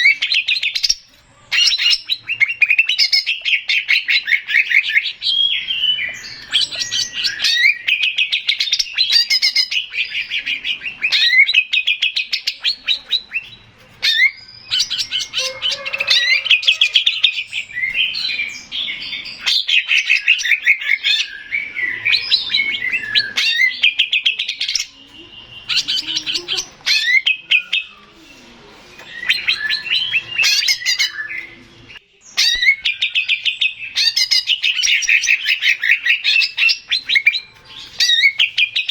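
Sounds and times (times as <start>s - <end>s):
bird singing chirps and trills: 0.0s - 28.3s, 28.9s - 38.9s.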